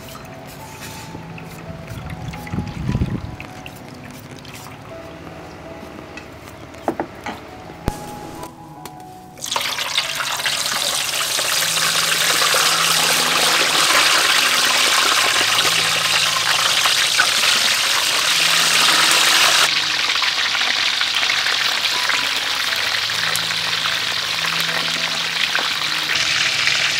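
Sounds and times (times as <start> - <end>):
fish deep-frying in hot oil: 0.0 - 4.9, 9.4 - 26.9.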